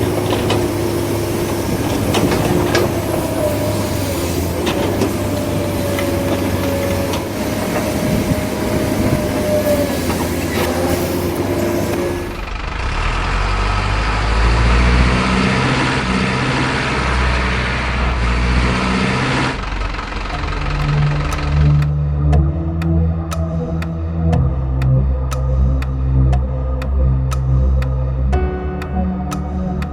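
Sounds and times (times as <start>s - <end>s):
deep motor rumble: 0.0s - 29.9s.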